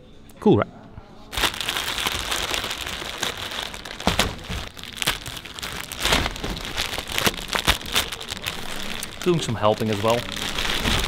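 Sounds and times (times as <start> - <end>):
plastic cover crinkling: 1.3 - 11.0.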